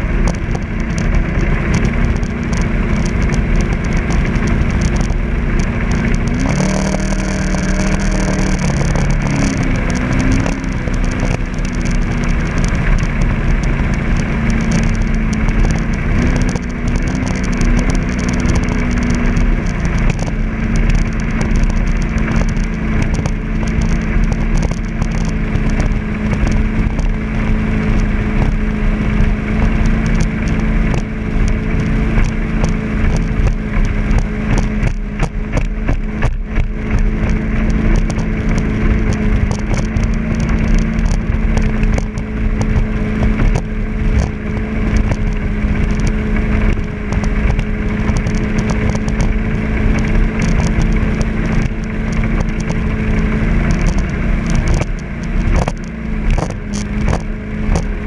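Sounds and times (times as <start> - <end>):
boat engine cruising: 0.0 - 58.0.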